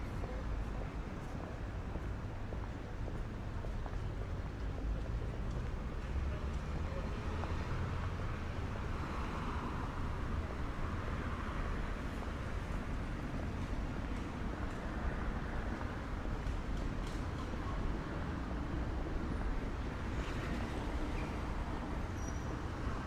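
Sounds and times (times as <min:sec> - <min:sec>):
road noise rumble: 0:00.0 - 0:23.0.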